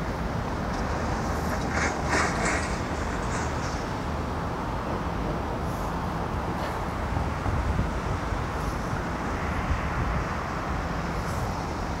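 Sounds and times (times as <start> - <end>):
airport ambience low rumble: 0.0 - 12.0.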